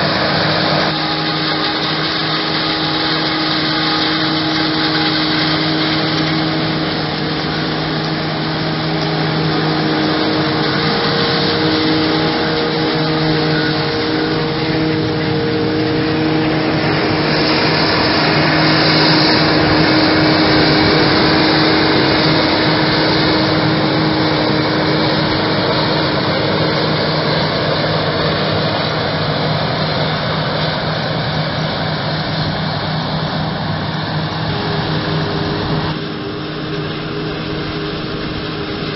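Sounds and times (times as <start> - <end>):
tractor engine: 0.0 - 38.9.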